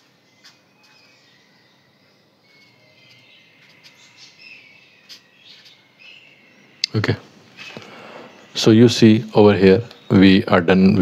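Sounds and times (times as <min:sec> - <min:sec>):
quiet hiss: 0:00.0 - 0:11.0.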